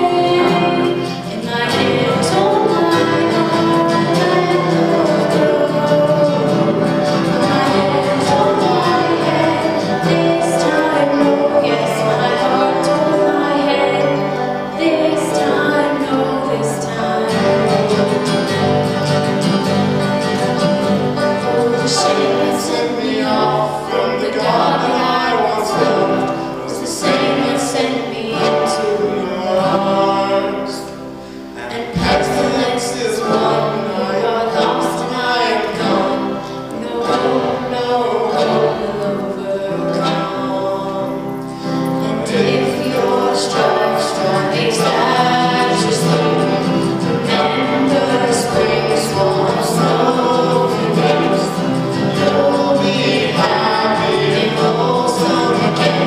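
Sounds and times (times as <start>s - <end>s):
band playing folk-rock: 0.0s - 56.0s
voices singing together: 0.0s - 56.0s.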